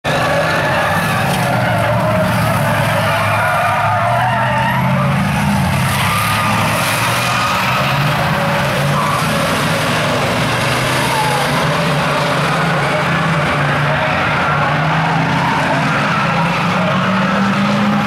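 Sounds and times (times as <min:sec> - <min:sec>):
racing car engines droning: 0:00.0 - 0:18.0
tyres squealing and skidding: 0:00.0 - 0:18.0.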